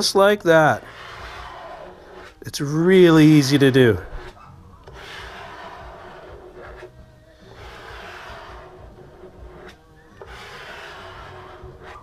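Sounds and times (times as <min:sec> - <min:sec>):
plastic squeegee scraping wet film: 0:00.0 - 0:12.0.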